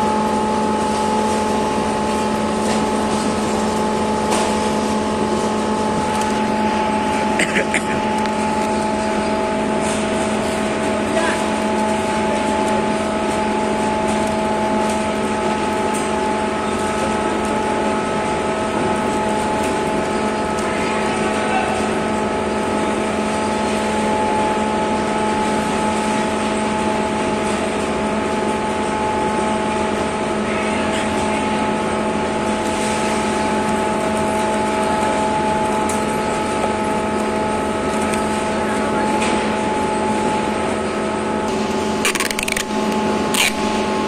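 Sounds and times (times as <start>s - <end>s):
machine drone: 0.0s - 44.0s.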